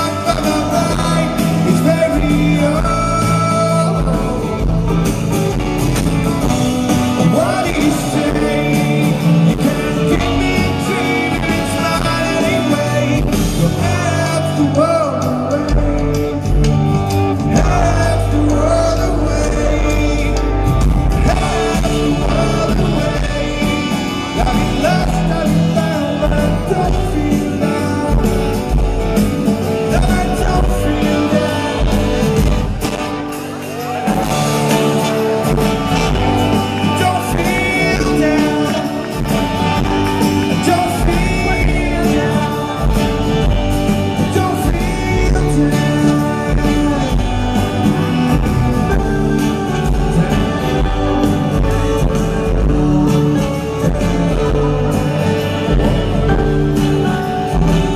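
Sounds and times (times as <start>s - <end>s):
acoustic guitar: 0.0s - 57.9s
drums: 0.0s - 57.9s
man singing: 0.0s - 57.9s.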